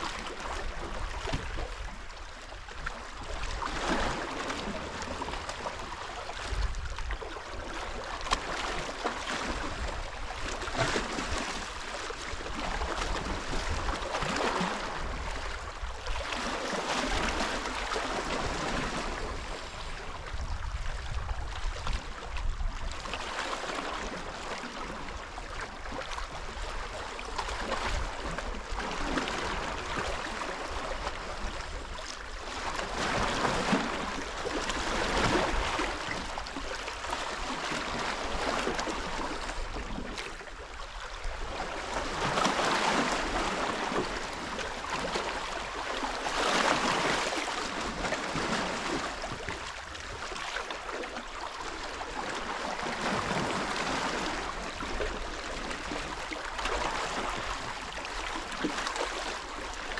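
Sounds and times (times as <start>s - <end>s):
wind and water rushing at shore: 0.0s - 59.9s.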